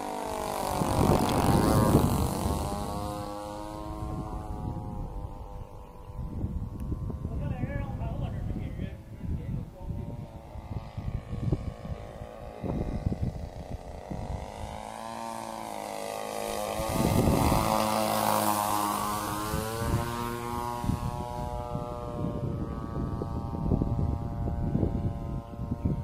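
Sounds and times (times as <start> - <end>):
model plane engine droning past: 0.0 - 26.0
wind buffeting microphone: 0.0 - 26.0.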